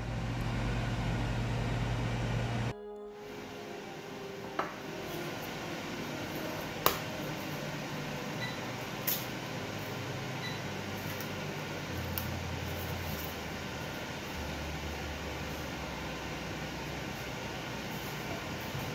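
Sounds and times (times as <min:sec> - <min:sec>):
steady background hiss: 0:00.0 - 0:18.9.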